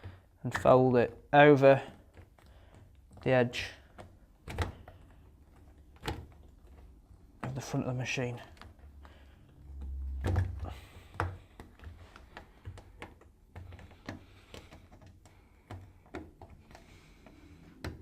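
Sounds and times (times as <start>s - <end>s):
rubber door seal being handled: 0.0s - 18.0s.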